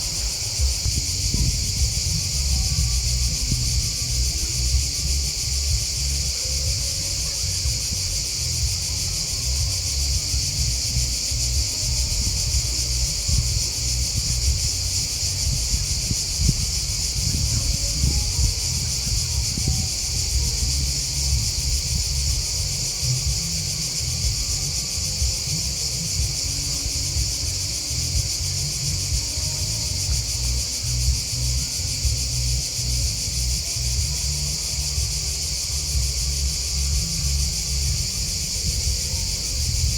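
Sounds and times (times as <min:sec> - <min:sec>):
constant low rumble: 0:00.0 - 0:39.9
grasshoppers and crickets chirping: 0:00.0 - 0:39.9.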